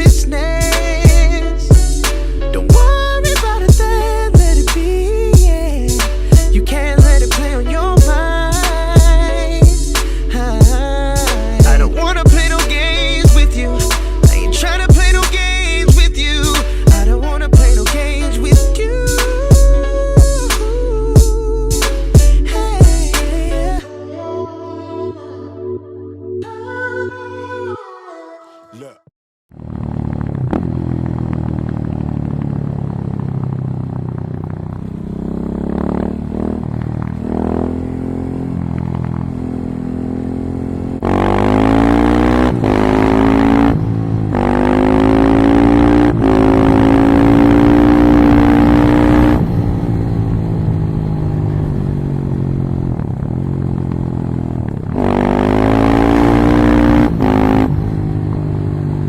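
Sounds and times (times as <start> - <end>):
motorcycle engine accelerating: 0.0 - 23.0, 29.5 - 59.0.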